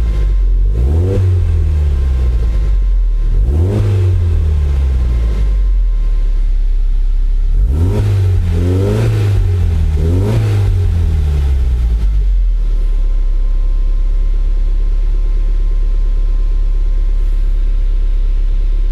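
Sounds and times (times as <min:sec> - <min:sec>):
car engine revving and idling: 0:00.0 - 0:18.9.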